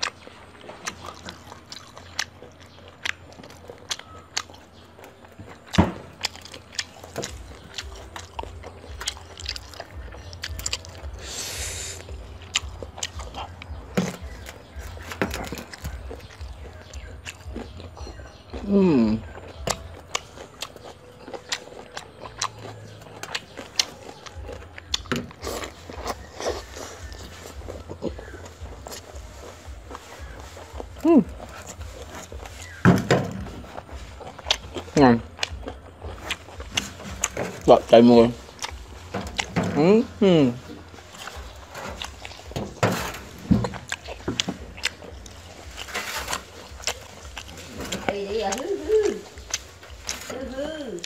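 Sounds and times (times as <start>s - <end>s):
person chewing with crunching: 0.0s - 51.0s.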